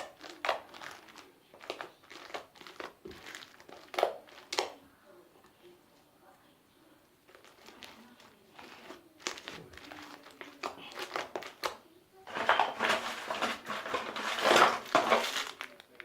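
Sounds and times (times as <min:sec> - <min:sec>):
confetti crinkling: 0:00.0 - 0:04.7, 0:07.3 - 0:16.0.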